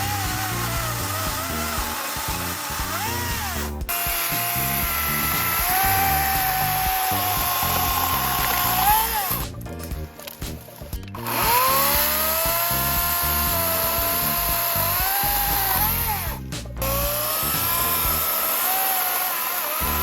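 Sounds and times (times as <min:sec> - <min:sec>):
cordless chainsaw cutting wood: 0:00.0 - 0:09.5, 0:11.2 - 0:20.0.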